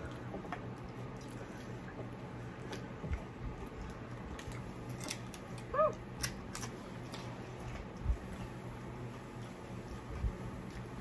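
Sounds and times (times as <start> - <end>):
chewing with crunches: 0.0 - 11.0.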